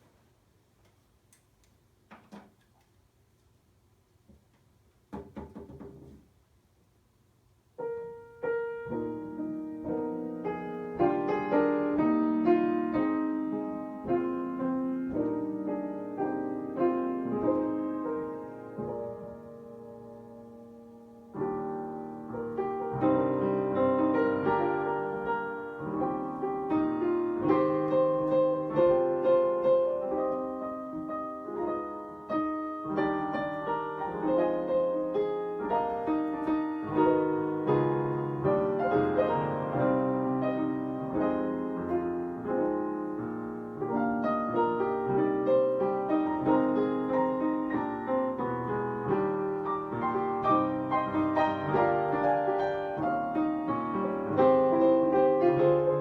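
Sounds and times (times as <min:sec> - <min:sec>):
piano melody over chords: 0:07.8 - 0:56.0.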